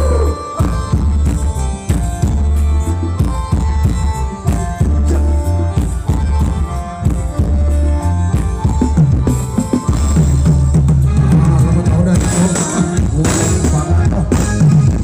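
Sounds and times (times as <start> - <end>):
deep pulsing bass: 0.0 - 15.0
drum kit beat: 0.0 - 15.0
held melody notes: 0.0 - 15.0.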